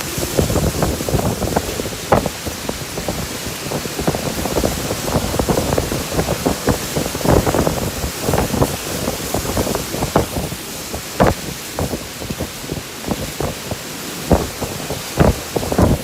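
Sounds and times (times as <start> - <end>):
rain hiss: 0.0 - 16.0
wind buffeting microphone: 0.0 - 16.0.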